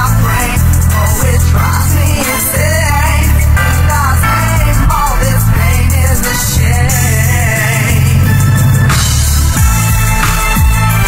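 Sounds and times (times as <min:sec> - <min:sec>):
heavy bass line: 0:00.0 - 0:11.0
wavering melody line: 0:00.0 - 0:11.0.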